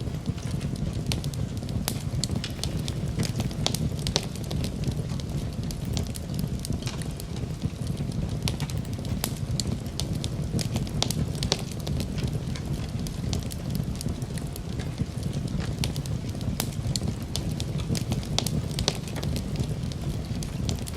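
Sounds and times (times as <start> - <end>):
campfire crackling and popping: 0.0 - 20.9
low rush of flames: 0.0 - 20.9.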